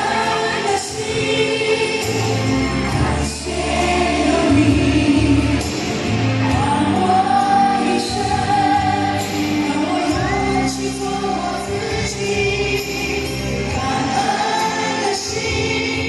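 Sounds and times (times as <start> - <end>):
group singing with instrumental backing: 0.0 - 16.0.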